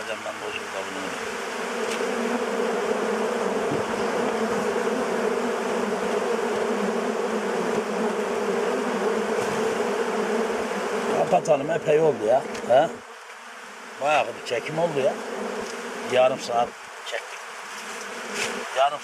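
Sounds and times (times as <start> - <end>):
swarm of bees buzzing: 0.0 - 19.0.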